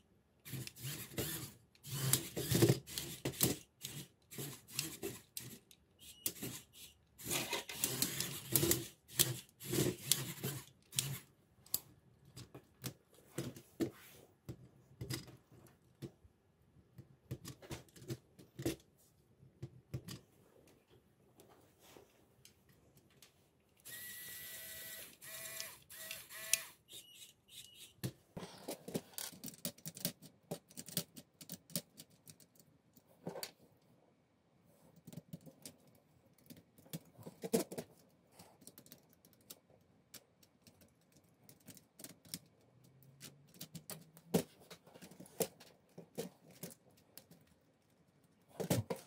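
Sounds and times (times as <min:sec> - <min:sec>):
plastic parts clicking and knocking: 0:00.4 - 0:18.9, 0:19.5 - 0:20.3, 0:25.1 - 0:33.6, 0:34.9 - 0:49.0.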